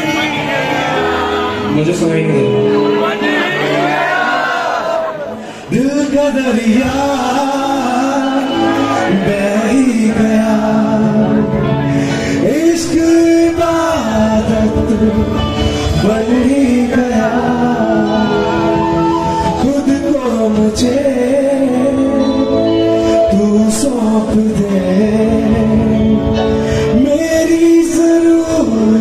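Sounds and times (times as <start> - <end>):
live band: 0.0 - 29.0
man singing: 5.4 - 29.0.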